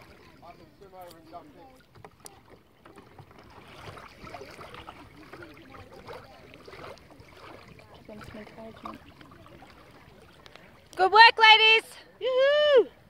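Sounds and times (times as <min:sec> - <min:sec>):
faint distant voices: 0:00.0 - 0:12.3
water lapping and splashing: 0:00.0 - 0:13.0.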